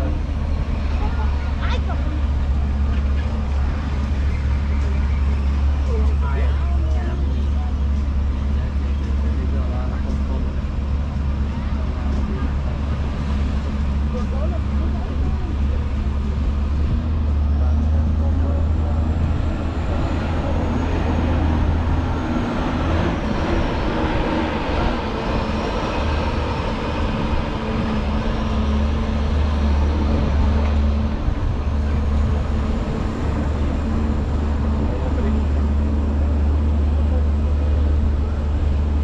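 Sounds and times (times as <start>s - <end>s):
road noise: 0.0s - 39.0s
tram engine rumble: 0.0s - 39.0s.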